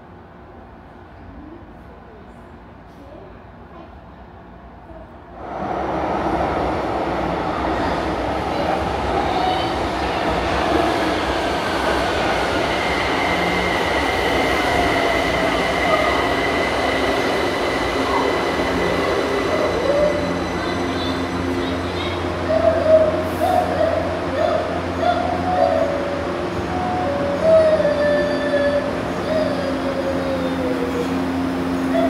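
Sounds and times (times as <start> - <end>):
metro train moving: 0.0 - 32.0.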